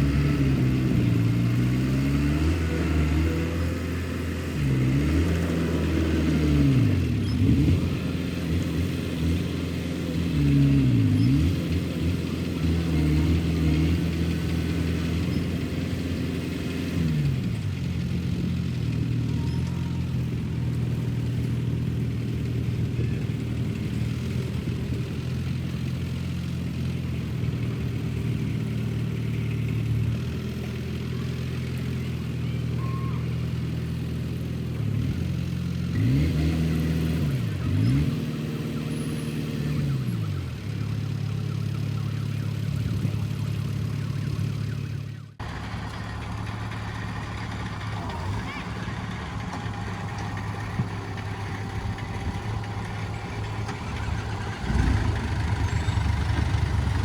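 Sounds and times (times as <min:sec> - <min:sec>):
diesel engine running and revving: 0:00.0 - 0:57.0.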